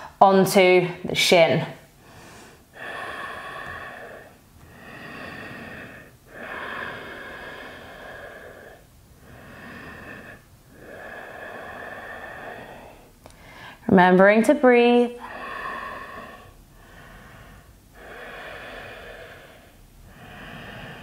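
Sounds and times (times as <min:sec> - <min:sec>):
slow throat breathing: 0:01.9 - 0:13.8, 0:15.2 - 0:21.0.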